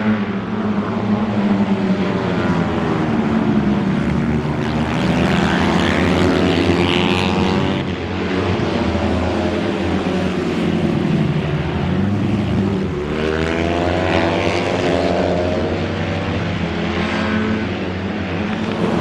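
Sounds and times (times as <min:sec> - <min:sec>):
racing motorcycles passing at high revs: 0:00.0 - 0:19.0.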